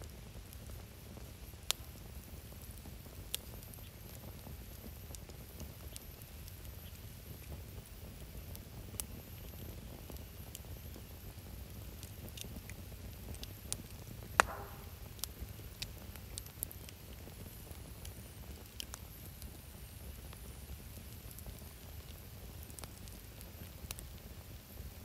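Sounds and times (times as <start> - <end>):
campfire crackling: 0.0 - 25.0
sharp pops of fire: 0.4 - 7.8, 8.5 - 24.3.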